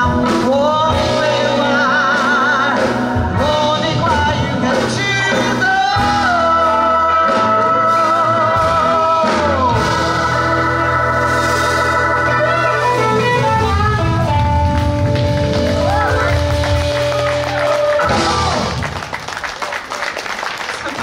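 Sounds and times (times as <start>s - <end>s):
blues band playing: 0.0s - 21.0s.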